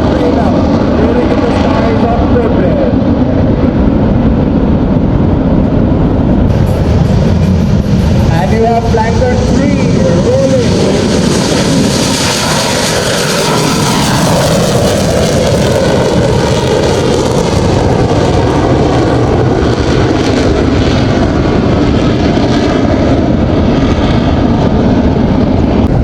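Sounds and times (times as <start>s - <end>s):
aircraft flying low overhead: 0.0s - 26.0s.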